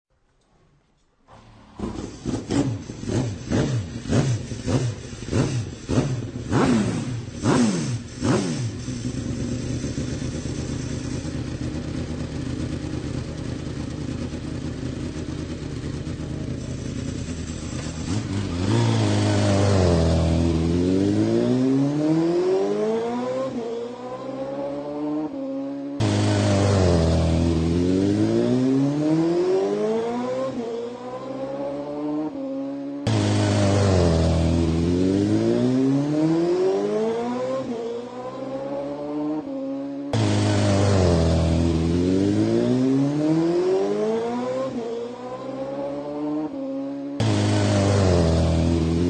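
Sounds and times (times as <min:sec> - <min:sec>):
atv engines revving: 0:01.3 - 0:49.0.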